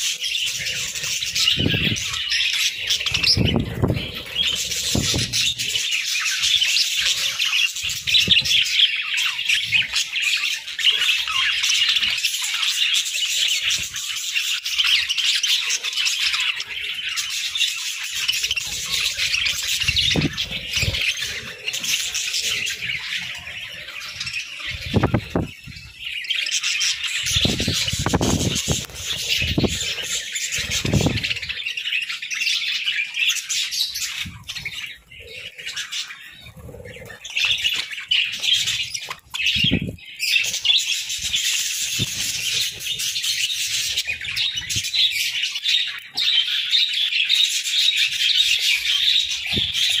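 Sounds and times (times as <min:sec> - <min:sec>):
budgerigars chattering and chirping: 0:00.0 - 0:50.0.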